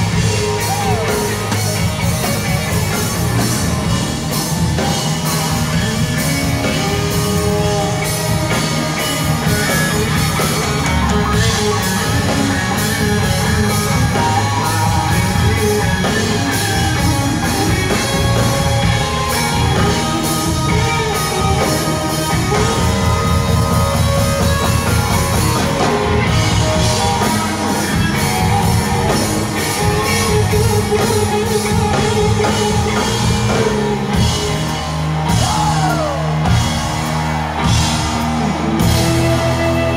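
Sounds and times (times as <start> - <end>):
drum kit: 0.0 - 39.9
electric guitars: 0.0 - 39.9
heavy bass: 0.0 - 39.9.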